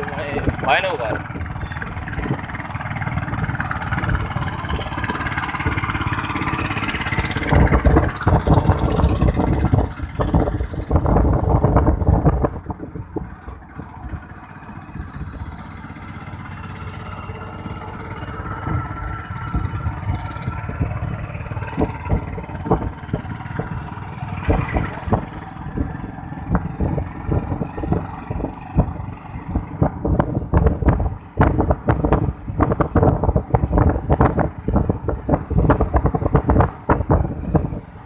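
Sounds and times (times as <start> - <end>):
motorcycle engine running: 0.0 - 38.0
wind buffeting microphone: 0.0 - 38.0.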